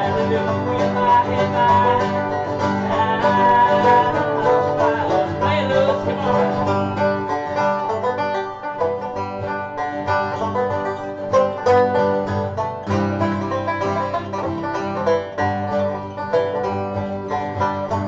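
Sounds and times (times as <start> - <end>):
acoustic guitar: 0.0 - 18.0
banjo: 0.0 - 18.0.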